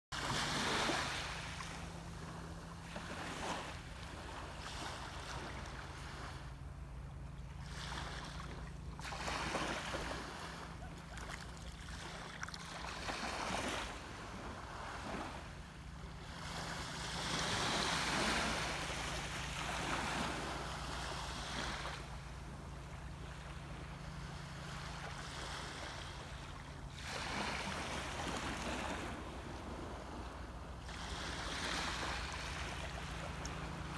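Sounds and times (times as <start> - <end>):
small waves washing onto beach: 0.2 - 33.9
steady low hum: 0.2 - 33.9.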